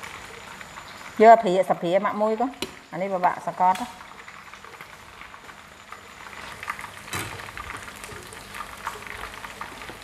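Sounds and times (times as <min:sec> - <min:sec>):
deep-frying sizzle and pops: 0:00.0 - 0:10.0.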